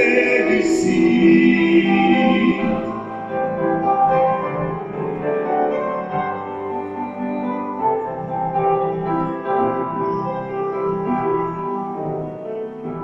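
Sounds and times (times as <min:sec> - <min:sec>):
keyboard playing melody and chords: 0:00.0 - 0:13.0.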